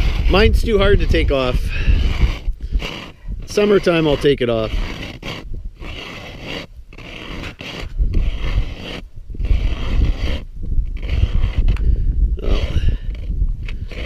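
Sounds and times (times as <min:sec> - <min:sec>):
ice auger grinding through ice: 0:00.0 - 0:14.0.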